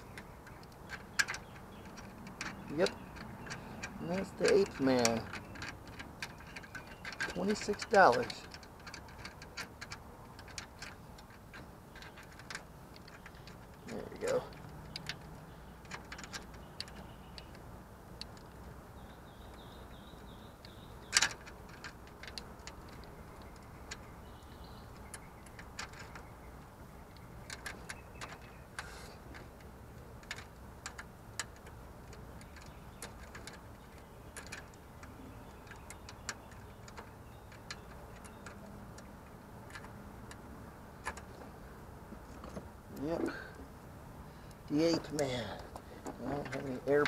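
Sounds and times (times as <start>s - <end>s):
light clicks and taps: 0.1s - 47.0s.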